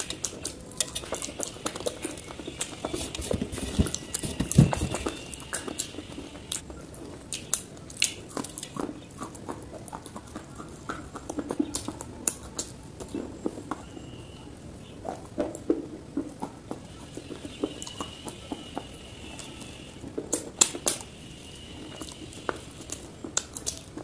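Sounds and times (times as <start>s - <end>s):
crunchy chewing of clay: 0.0s - 24.0s.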